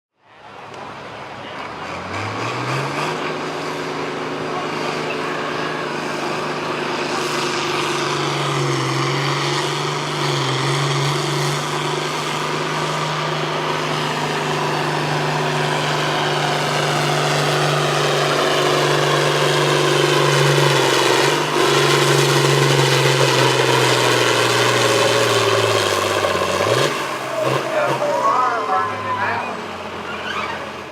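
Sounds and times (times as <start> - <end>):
tractor engine under heavy load: 0.2 - 30.9.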